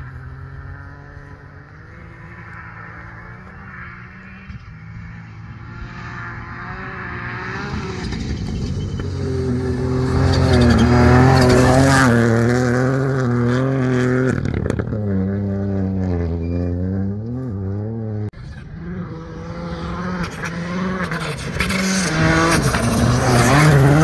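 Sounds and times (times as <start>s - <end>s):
rally car engine at full throttle: 0.0s - 24.0s.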